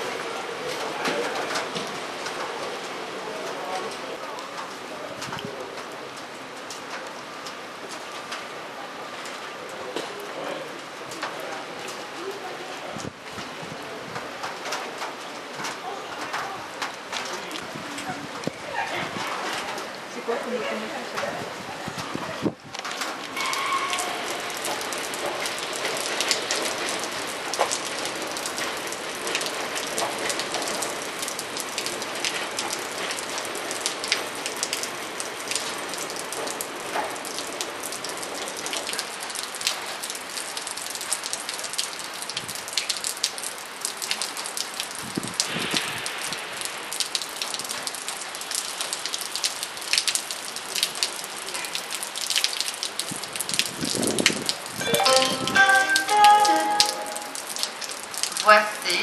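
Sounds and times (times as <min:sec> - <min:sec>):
raindrops hitting close: 0:00.0 - 0:59.0
steady rain: 0:00.0 - 0:59.0.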